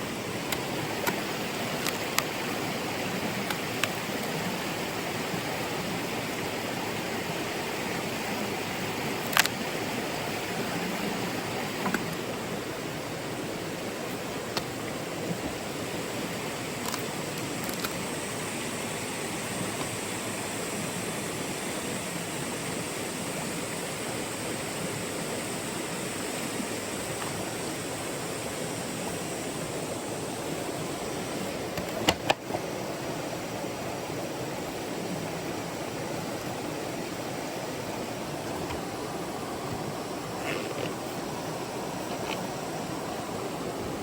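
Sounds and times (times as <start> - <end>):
stream flowing over rocks: 0.0 - 44.0.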